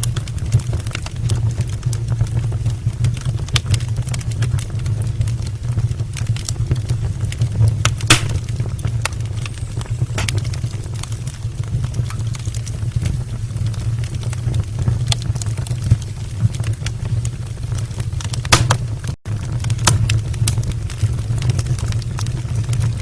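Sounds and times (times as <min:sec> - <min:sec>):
logs crackling and popping: 0:00.0 - 0:23.0
low fire rumble: 0:00.0 - 0:23.0.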